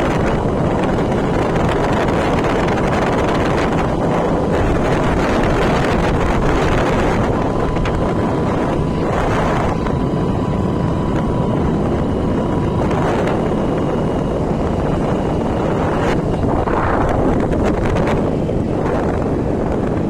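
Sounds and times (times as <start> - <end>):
faint steady whine: 0.0 - 20.0
moving road vehicle noise: 0.0 - 20.0
wind buffeting microphone: 0.0 - 20.0.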